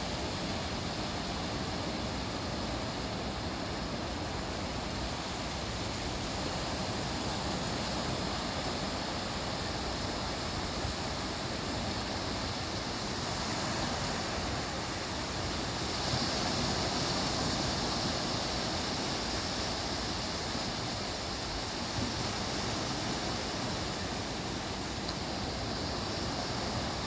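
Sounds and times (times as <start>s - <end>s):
waves washing up a beach: 0.0s - 27.0s.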